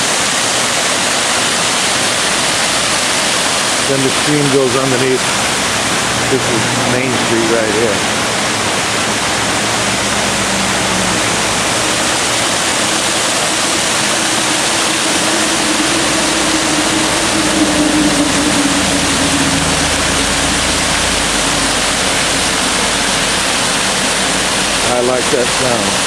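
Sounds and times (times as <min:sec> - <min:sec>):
waterfall rushing over dam: 0:00.0 - 0:26.0.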